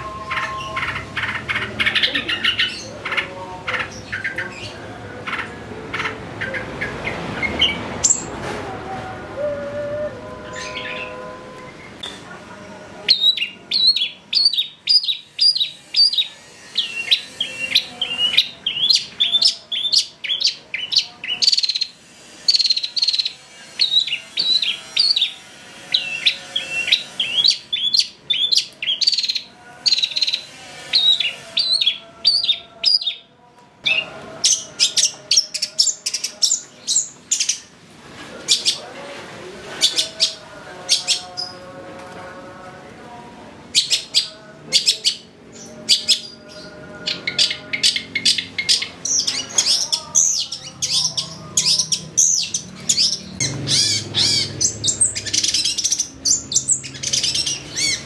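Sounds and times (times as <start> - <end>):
shrike singing: 0.0 - 37.8, 38.4 - 58.0.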